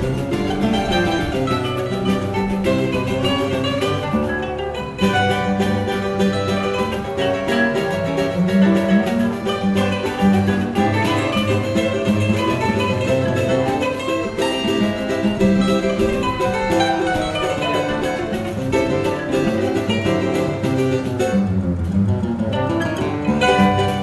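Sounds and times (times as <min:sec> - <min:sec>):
guitar bass line: 0:00.0 - 0:24.0
plucked string ensemble: 0:00.0 - 0:24.0.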